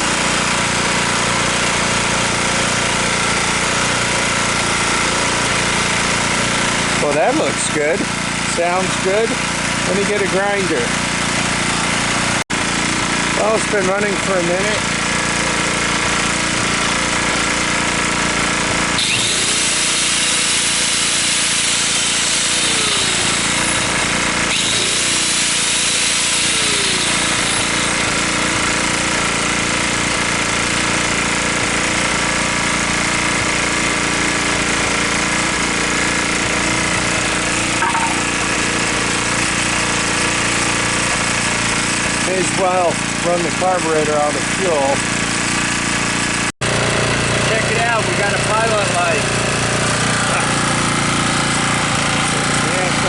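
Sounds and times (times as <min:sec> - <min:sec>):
angle grinder whining: 0:00.0 - 0:53.0
generator engine running: 0:00.0 - 0:53.0.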